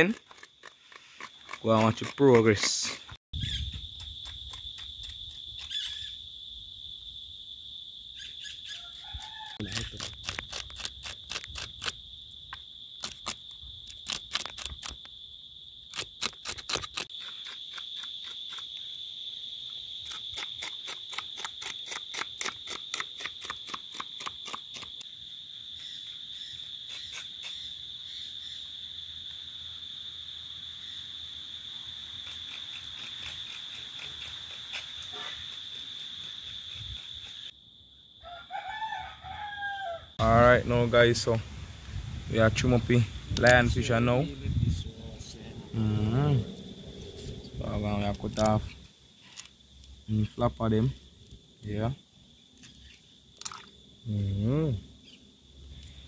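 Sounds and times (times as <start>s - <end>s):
high-pitched insect drone: 1.2s - 38.4s, 42.3s - 51.0s.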